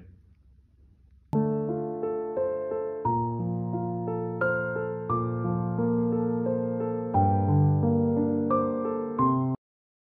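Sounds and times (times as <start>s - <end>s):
gentle electric piano music: 1.4s - 9.6s.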